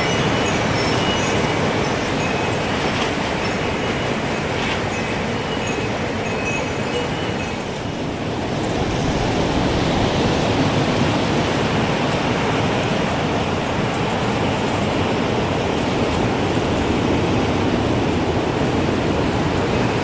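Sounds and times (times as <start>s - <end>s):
strong gusting wind: 0.0s - 20.0s.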